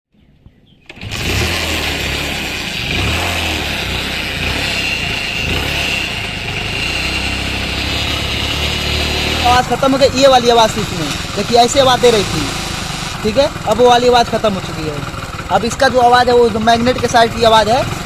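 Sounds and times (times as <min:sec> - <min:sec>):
motorcycle engine running: 0:00.9 - 0:18.0.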